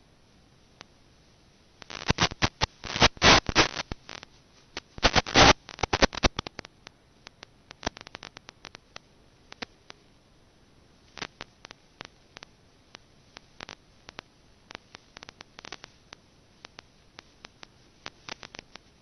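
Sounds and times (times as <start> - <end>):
crackling static clicks: 0.0 - 19.0.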